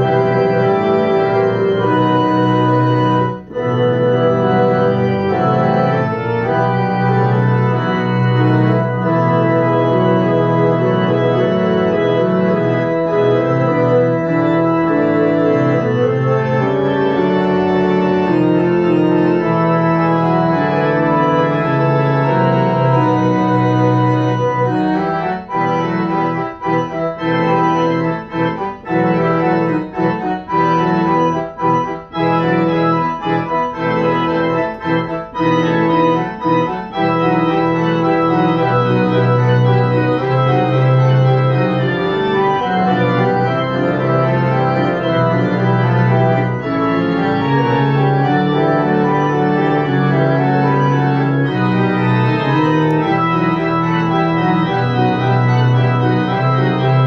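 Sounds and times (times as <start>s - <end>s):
digital piano organ chords: 0.0s - 57.0s.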